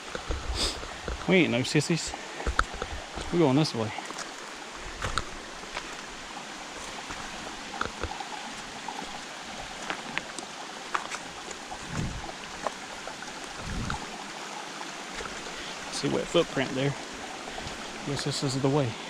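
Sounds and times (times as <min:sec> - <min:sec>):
creek water over rocks: 0:00.0 - 0:19.0.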